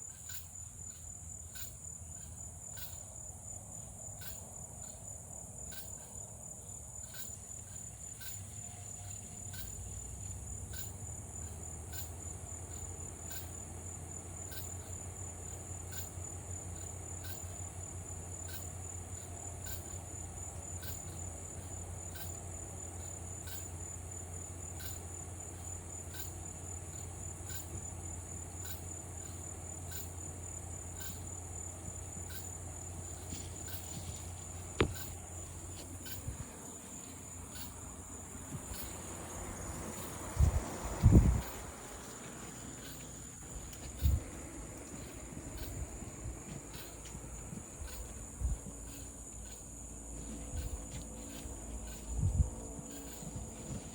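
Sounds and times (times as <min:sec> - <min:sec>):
crickets and cicadas trilling: 0:00.0 - 0:53.9
low steady hum: 0:00.0 - 0:53.9
regular insect chirp: 0:00.0 - 0:53.9.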